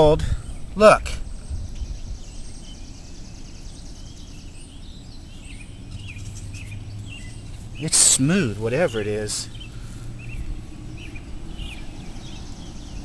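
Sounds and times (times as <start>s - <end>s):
birds chirping: 0.0s - 13.0s
high rapid bird trill: 0.0s - 13.0s
wind rumble on microphone: 0.0s - 13.0s.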